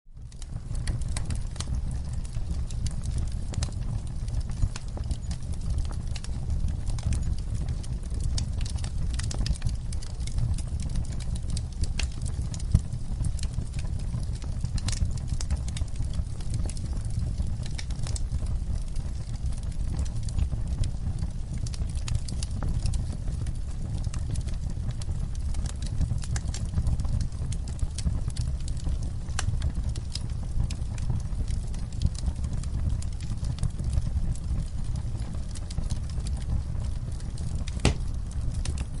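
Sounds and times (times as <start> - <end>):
burning wood crackling and popping: 0.1 - 39.0
wood fire rumbling: 0.1 - 39.0.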